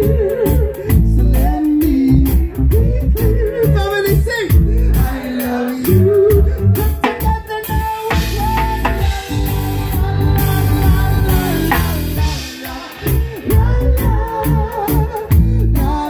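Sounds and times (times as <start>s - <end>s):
bass line: 0.0s - 16.0s
drum kit: 0.0s - 16.0s
person singing: 0.0s - 16.0s.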